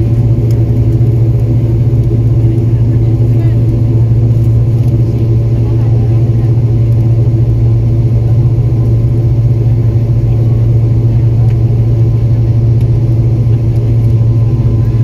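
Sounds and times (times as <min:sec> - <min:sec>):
airliner engine hum in cabin: 0:00.0 - 0:15.0.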